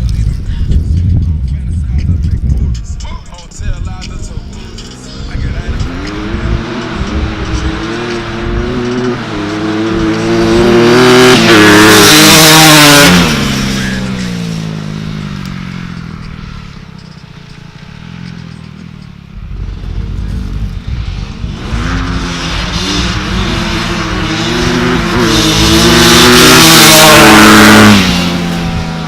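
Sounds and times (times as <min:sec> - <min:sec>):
dirt bike engine passing: 0:04.8 - 0:17.1, 0:18.0 - 0:29.0.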